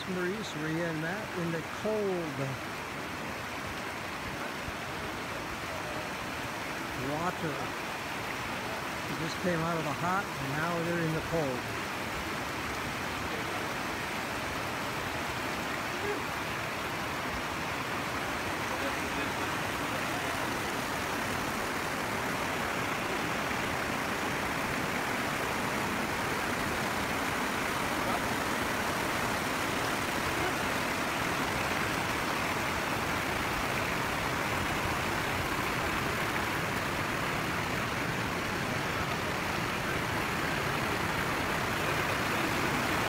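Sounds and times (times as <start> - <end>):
river rushing over rapids: 0.0 - 43.0.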